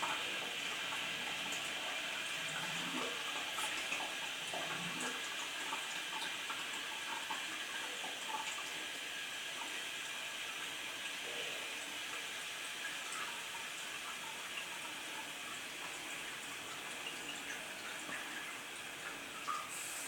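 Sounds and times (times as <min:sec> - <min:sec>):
water gurgles and drips: 0:00.0 - 0:20.0
water running in a toilet: 0:00.0 - 0:20.0.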